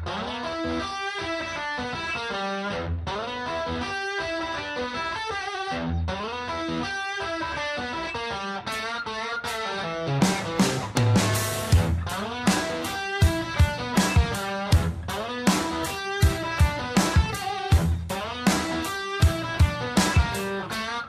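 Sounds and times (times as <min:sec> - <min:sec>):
guitar riff music: 0:00.0 - 0:21.0.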